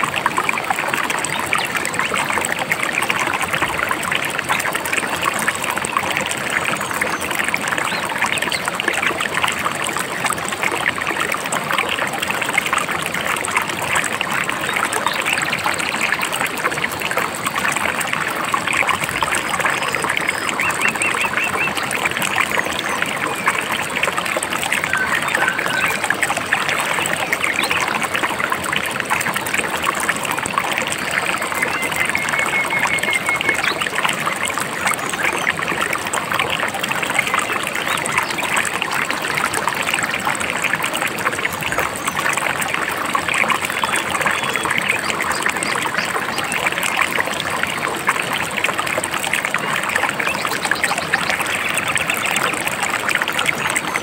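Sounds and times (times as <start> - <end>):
river babbling: 7.3 - 54.0.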